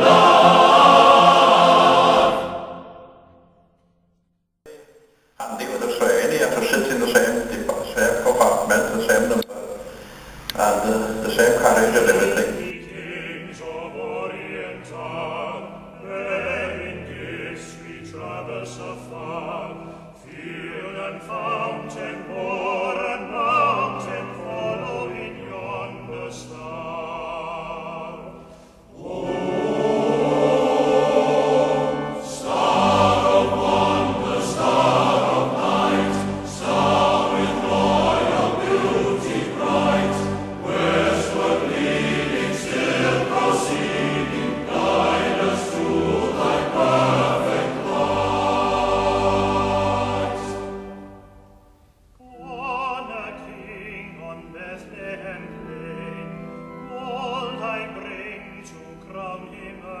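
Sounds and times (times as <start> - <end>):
choir singing with orchestra: 0.0 - 3.5, 4.7 - 60.0.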